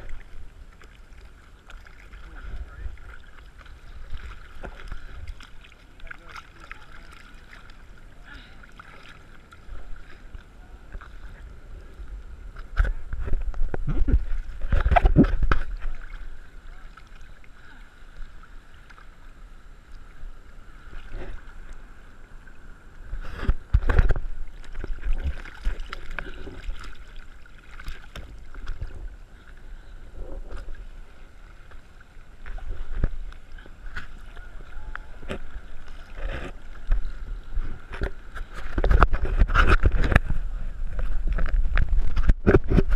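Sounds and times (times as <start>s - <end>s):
water rushing over camera housing: 0.0s - 8.3s, 8.9s - 17.5s, 22.9s - 29.4s, 30.1s - 42.9s
seawater sloshing and splashing: 0.0s - 11.5s, 12.5s - 19.4s, 20.0s - 42.9s.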